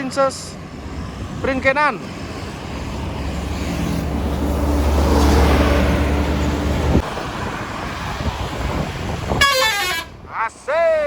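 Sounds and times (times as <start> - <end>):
bus engine drone: 0.0 - 10.7
tyre and road noise: 0.0 - 11.0.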